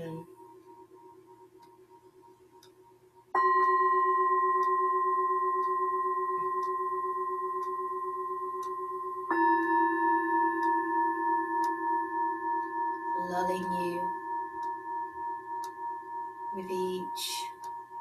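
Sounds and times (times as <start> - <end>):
metal singing bowls ringing: 3.4 - 18.0.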